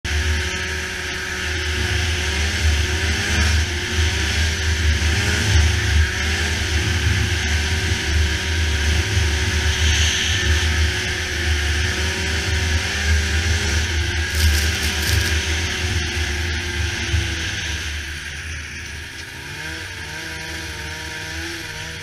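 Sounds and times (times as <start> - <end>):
snowmobile engine running: 0.0 - 22.0
wind and track hiss: 0.1 - 22.0.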